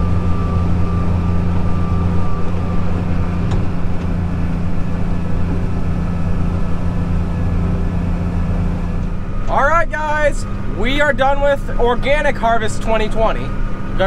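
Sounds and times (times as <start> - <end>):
combine harvester: 0.0 - 14.0
tractor engine droning: 0.0 - 14.0.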